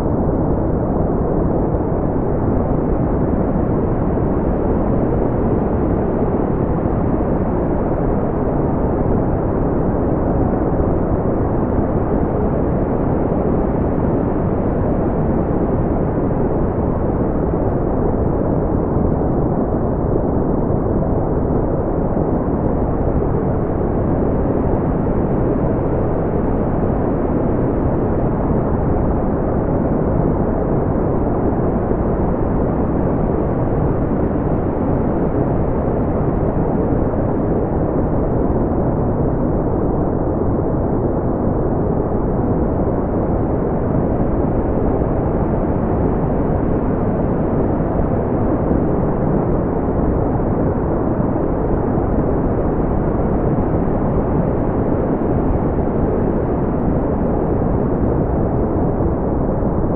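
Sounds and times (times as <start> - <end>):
brown noise rumble: 0.0 - 59.9.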